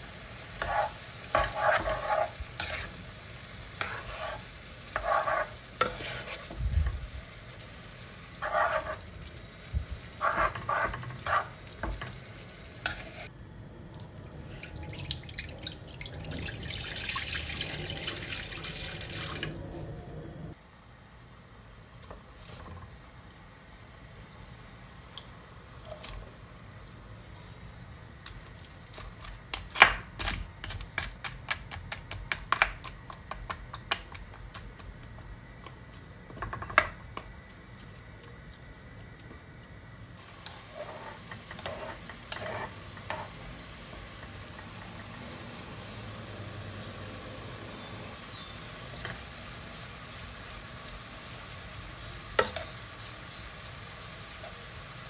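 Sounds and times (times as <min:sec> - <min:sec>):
vegetables simmering and sizzling: 0:00.0 - 0:55.0.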